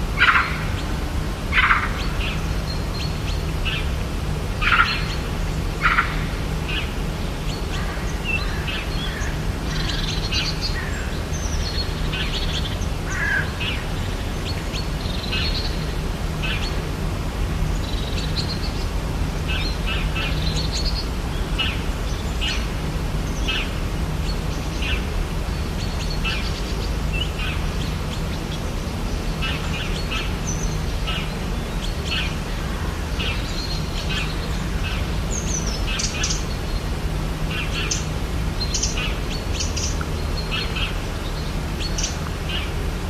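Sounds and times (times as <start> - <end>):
birds chirping and calling: 0.0 - 43.0
steady low hum: 0.0 - 43.0.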